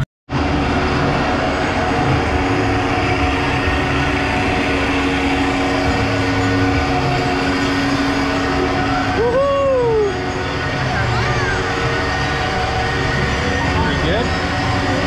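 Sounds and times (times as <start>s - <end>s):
carousel drive hum and rumble: 0.0s - 15.0s
constant tone: 0.0s - 15.0s.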